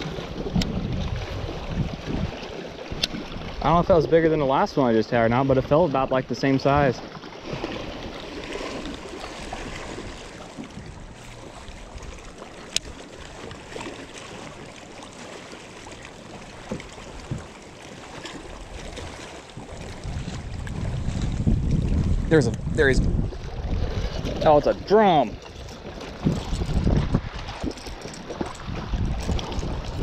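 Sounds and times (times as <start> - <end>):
water lapping against boat hull: 0.0 - 30.0.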